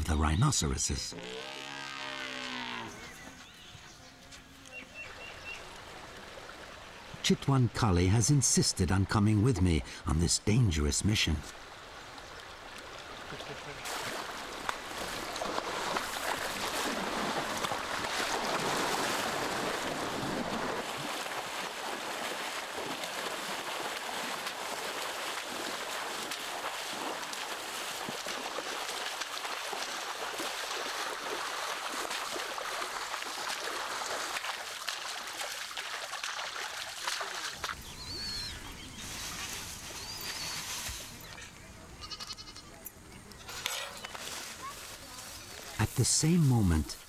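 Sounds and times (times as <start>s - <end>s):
running water: 0.0s - 40.5s.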